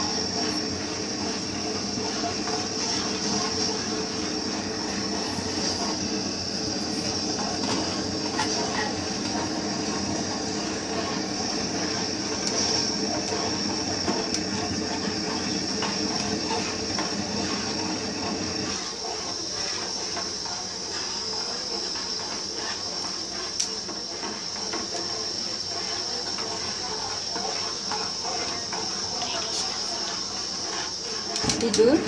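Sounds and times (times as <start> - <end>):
metal spoon scraping a pot: 0.0 - 6.1, 6.9 - 32.0
steady hiss: 0.0 - 32.0.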